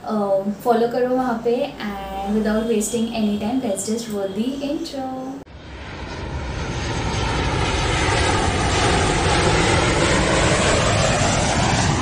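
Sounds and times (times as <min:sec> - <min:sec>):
airplane engine passing by: 0:01.2 - 0:12.0.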